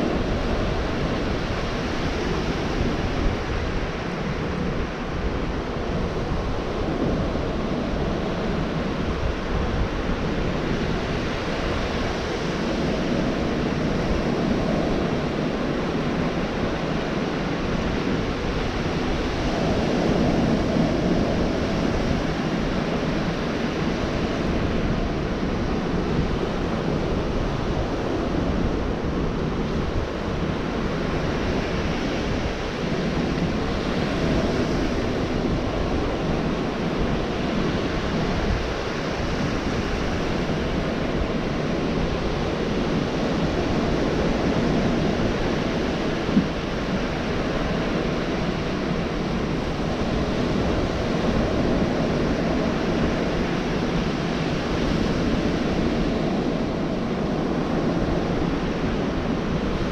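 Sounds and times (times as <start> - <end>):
surf breaking on a beach: 0.0 - 59.9
wind buffeting microphone: 0.0 - 59.9.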